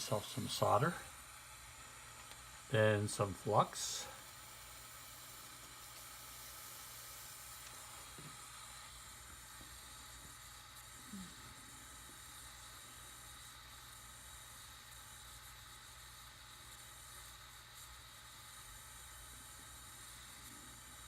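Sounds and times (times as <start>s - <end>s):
soldering torch flame hissing: 0.0s - 21.0s.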